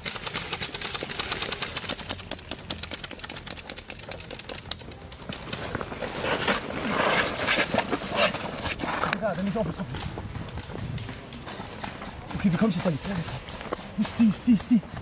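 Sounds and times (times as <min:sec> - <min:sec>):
players running and rustling: 0:00.0 - 0:15.0.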